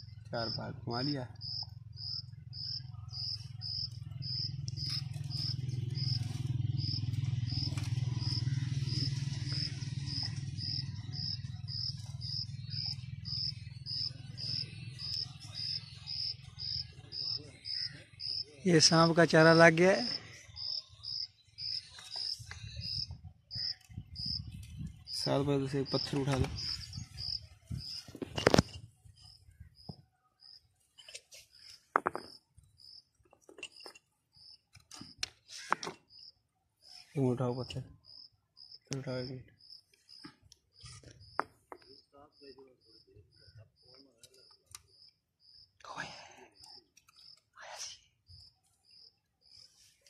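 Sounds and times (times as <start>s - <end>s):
cricket chirping: 0.0s - 24.5s, 25.1s - 35.2s, 36.1s - 47.6s, 48.3s - 49.8s.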